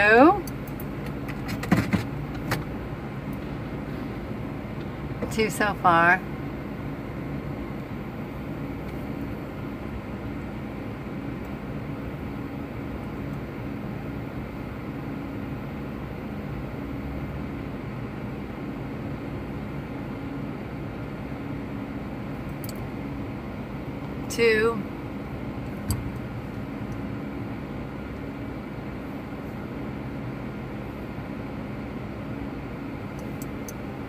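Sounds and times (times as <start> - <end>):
vehicle idling hum: 0.0 - 34.0.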